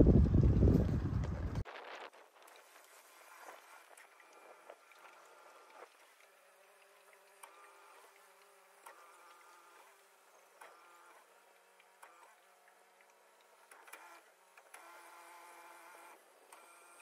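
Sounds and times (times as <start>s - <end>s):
boat motor humming: 0.0s - 1.6s, 2.6s - 17.0s.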